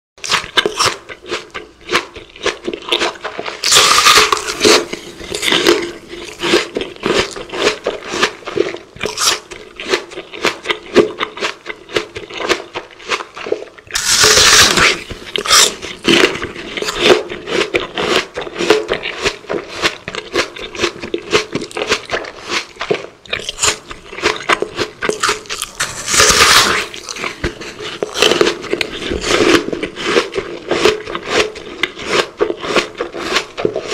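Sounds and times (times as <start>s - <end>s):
crackly chewing: 0.2s - 33.9s
crisp bites: 2.0s - 18.8s, 20.1s - 33.7s.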